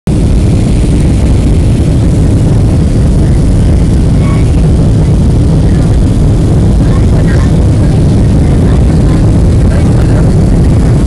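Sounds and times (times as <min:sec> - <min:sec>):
air rushing past fuselage: 0:00.1 - 0:11.0
jet engines rumbling: 0:00.1 - 0:11.0.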